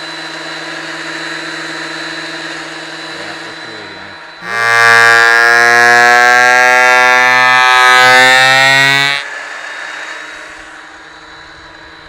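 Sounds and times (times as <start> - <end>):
machine humming: 0.0 - 12.0
thickness planer whine: 0.0 - 12.0.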